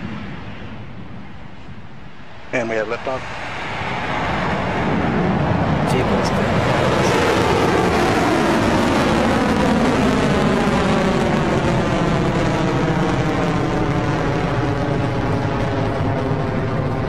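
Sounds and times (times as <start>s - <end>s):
deep rocket engine rumble: 0.0s - 17.0s.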